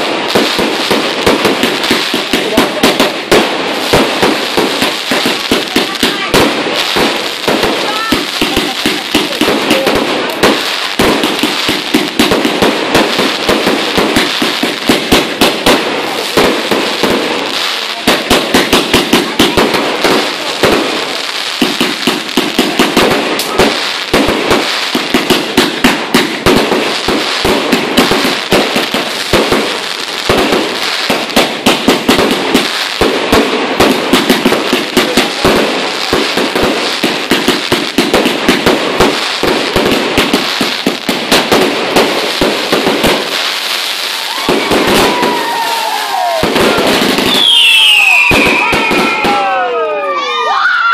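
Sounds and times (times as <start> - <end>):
firework battery bangs: 0.0 - 49.9.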